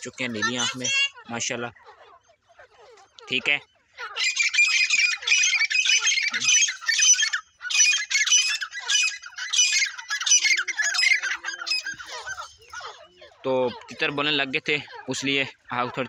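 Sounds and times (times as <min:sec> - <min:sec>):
francolins calling shrilly: 0:00.0 - 0:16.0.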